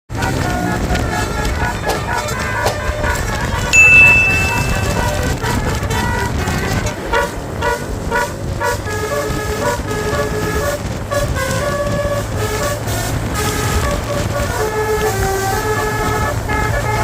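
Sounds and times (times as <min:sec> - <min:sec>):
bus engine hum: 0:00.1 - 0:03.6, 0:05.6 - 0:17.0
bus horn playing a melody: 0:00.1 - 0:03.7, 0:05.2 - 0:17.0.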